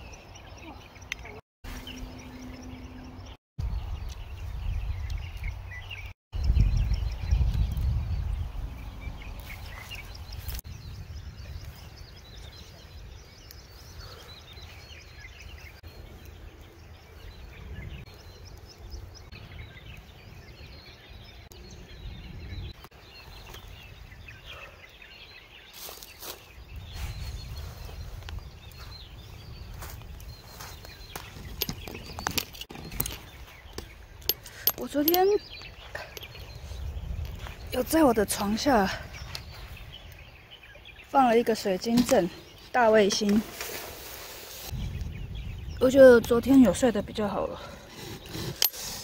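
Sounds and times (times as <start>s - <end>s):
wind rumble on microphone: 1.7s - 24.7s, 26.5s - 41.1s, 44.6s - 48.6s.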